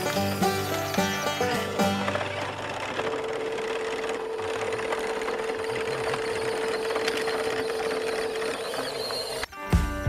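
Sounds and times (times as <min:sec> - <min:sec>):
tyres crunching over gravel: 0:00.0 - 0:09.4
small electric motor whining: 0:00.0 - 0:09.5.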